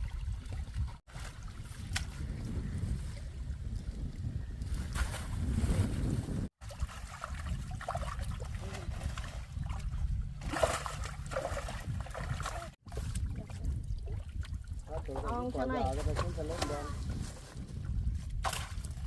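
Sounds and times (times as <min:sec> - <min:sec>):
water splashing and trickling: 0:00.0 - 0:19.0
wind rumbling on microphone: 0:00.0 - 0:19.0.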